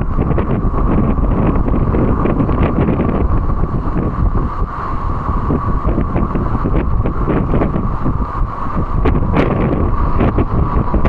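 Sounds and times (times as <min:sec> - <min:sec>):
scarf flapping in wind: 0:00.0 - 0:11.0
wind buffeting microphone: 0:00.0 - 0:11.0.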